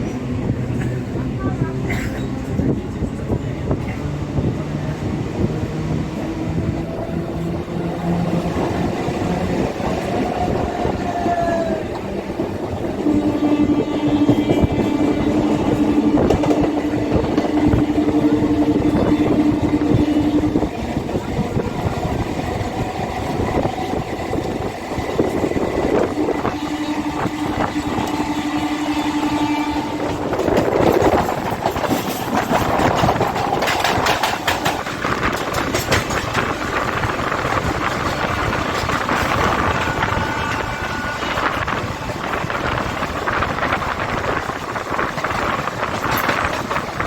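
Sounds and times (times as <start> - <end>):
train rail and wheel noise: 0.0 - 47.0.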